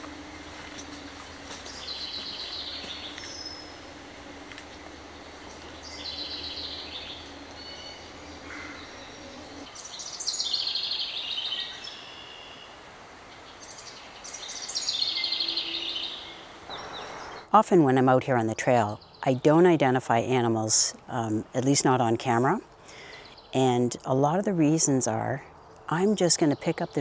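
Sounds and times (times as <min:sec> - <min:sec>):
faint woodland background: 0:00.0 - 0:27.0
songbird singing: 0:00.0 - 0:27.0.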